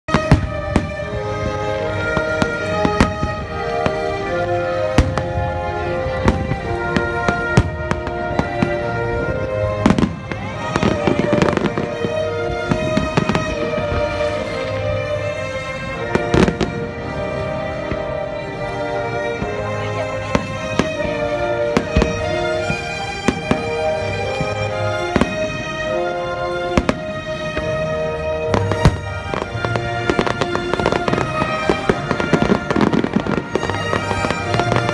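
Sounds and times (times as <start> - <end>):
fireworks bangs: 0.1 - 34.9
music with held notes: 0.1 - 34.9.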